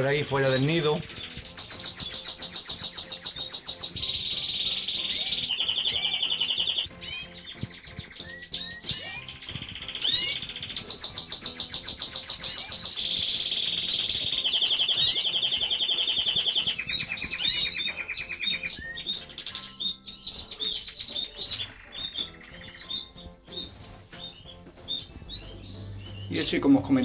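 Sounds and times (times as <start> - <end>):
canary singing rapid trills: 0.0 - 27.0
other birds chirping and calling: 0.0 - 27.0.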